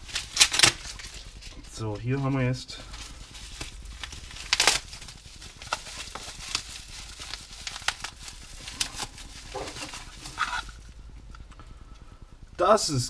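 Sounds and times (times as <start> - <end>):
plastic wrapping crinkling: 0.0 - 11.7
rustling: 0.0 - 11.8.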